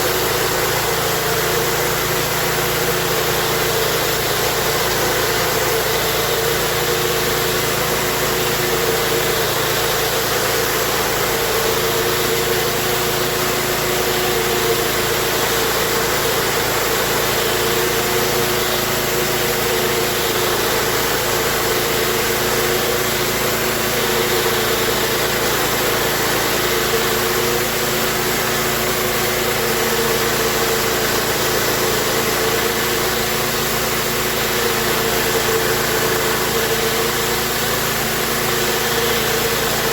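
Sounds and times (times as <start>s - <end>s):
pressure washer engine hum: 0.0s - 39.9s.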